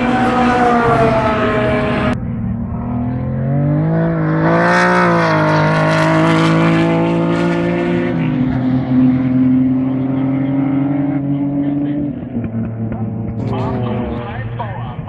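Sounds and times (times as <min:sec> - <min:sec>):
race car engine passing by: 0:00.0 - 0:14.6.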